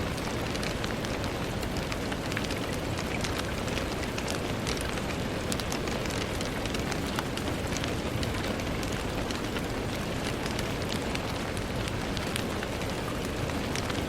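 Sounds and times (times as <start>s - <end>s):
rain ticking on window pane: 0.0s - 14.0s.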